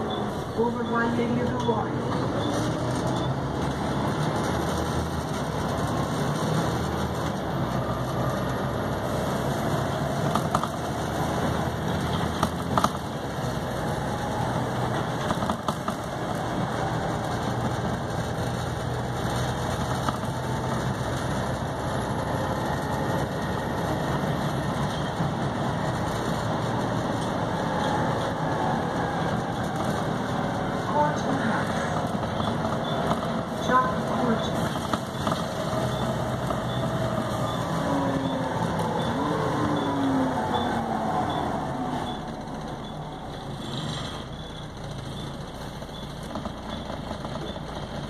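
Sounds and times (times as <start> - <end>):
bus diesel engine running: 0.0 - 48.0.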